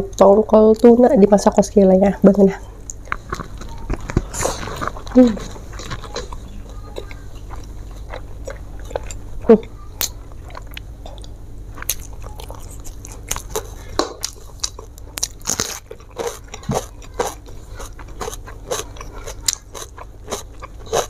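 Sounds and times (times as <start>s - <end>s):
person chewing and crunching food: 2.8s - 21.0s.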